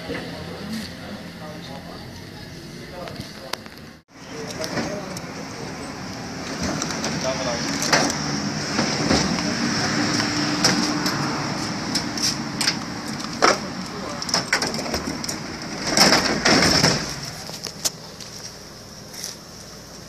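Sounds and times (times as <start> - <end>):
indistinct voices: 0.0 - 17.9
steady background noise: 0.0 - 20.0.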